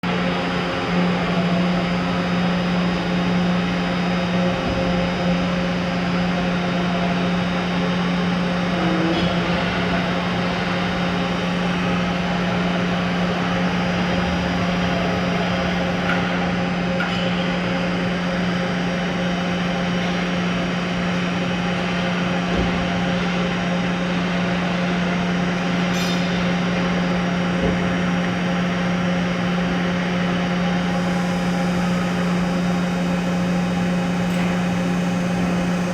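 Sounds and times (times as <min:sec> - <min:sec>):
machine hum with whines: 0:00.0 - 0:35.9.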